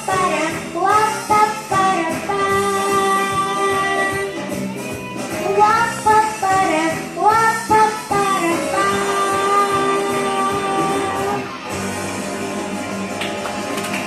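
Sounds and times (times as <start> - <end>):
sliding melody music: 0.0 - 14.0.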